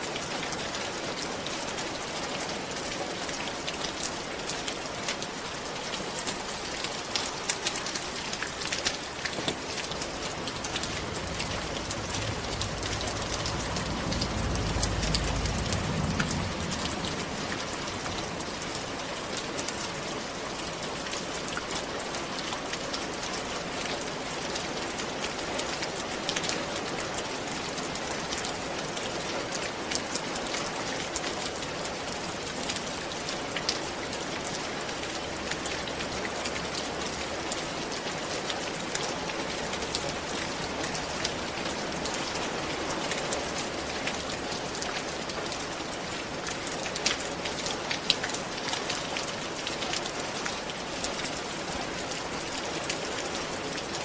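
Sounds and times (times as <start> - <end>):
rain pattering on a roof: 0.0 - 54.0.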